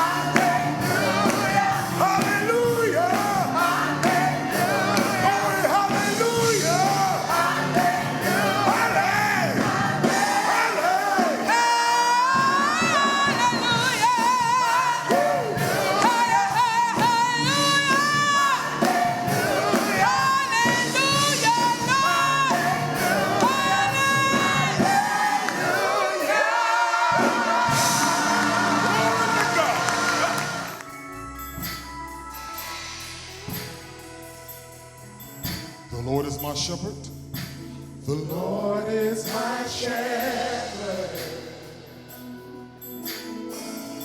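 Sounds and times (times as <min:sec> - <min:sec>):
person singing with vibrato: 0:00.0 - 0:31.0, 0:38.0 - 0:42.4
band accompaniment: 0:00.0 - 0:37.8.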